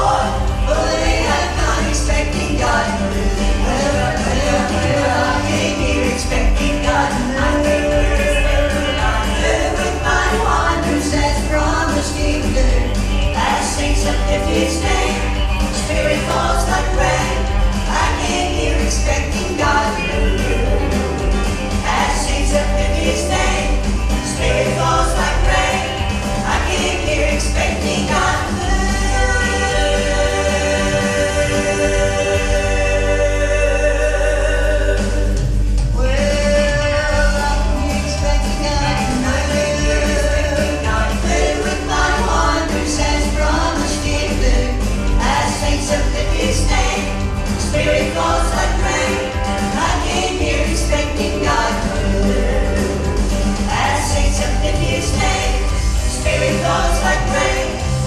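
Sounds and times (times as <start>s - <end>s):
steady bass: 0.0s - 58.0s
vocal group singing gospel: 0.0s - 58.0s.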